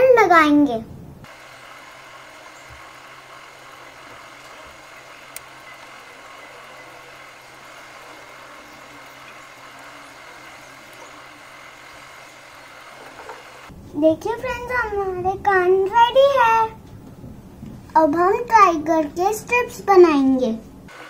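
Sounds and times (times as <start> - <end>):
background hum with hiss: 0.0 - 21.0.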